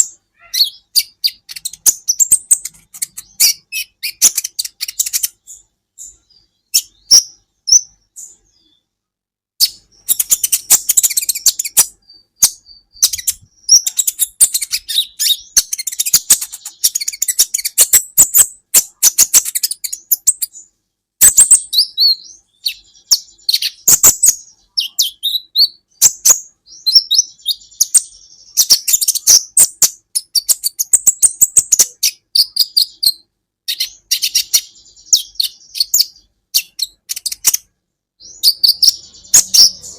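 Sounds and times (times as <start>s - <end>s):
bird singing high chirps: 0.0s - 9.0s, 9.6s - 39.9s.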